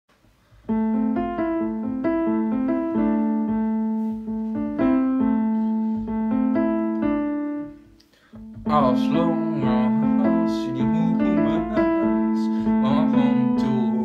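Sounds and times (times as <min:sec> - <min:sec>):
piano melody: 0:00.4 - 0:14.0.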